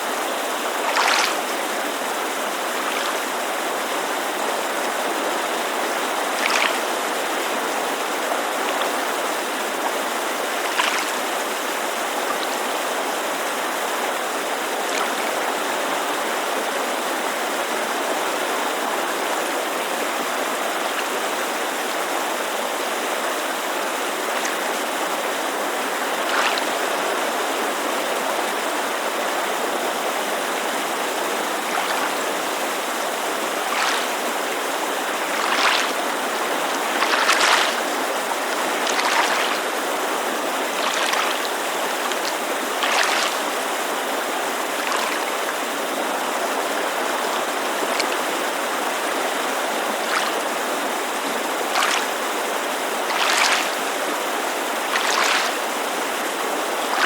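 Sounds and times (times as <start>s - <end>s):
rushing creek: 0.0s - 57.0s
small waves lapping on shore: 0.0s - 57.0s.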